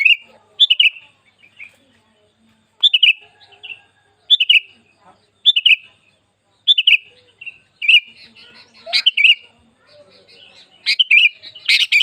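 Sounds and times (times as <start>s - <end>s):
bulbul singing: 0.0s - 12.0s.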